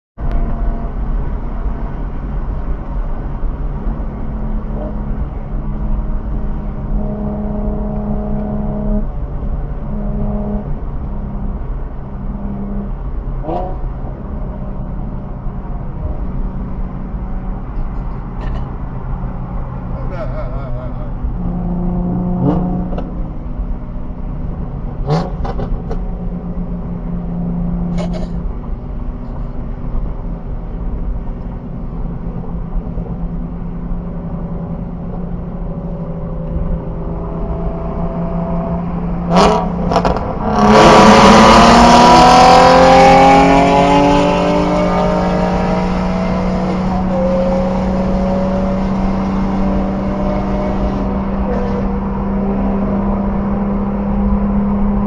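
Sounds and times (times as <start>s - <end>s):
car exhaust revving under acceleration: 0.2s - 17.8s, 21.3s - 29.2s, 29.9s - 55.0s.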